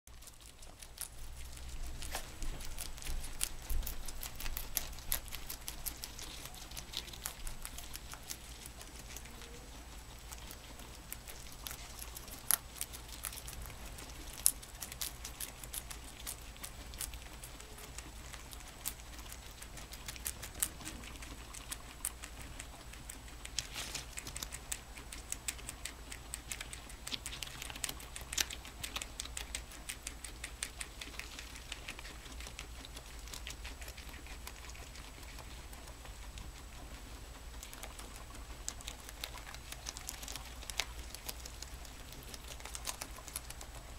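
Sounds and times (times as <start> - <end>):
guinea pigs chewing leaves: 0.1 - 43.9.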